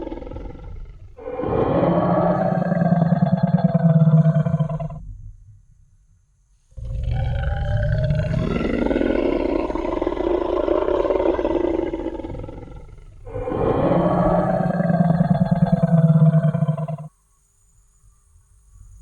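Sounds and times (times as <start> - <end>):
dinosaur roar: 0.0 - 5.0, 6.8 - 17.1.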